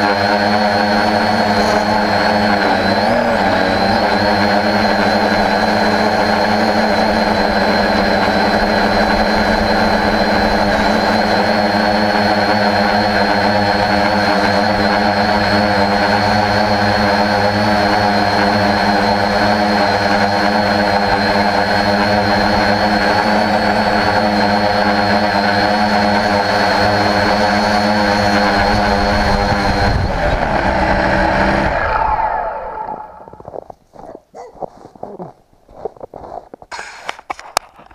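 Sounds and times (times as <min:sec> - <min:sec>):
drone motors whining: 0:00.0 - 0:33.6.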